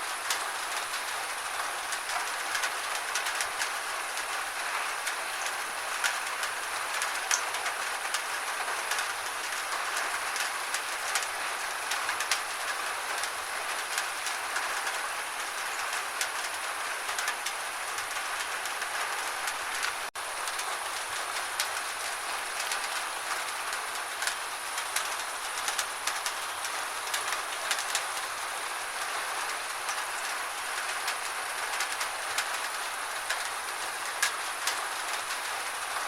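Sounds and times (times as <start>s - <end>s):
gentle rain: 0.0s - 36.0s.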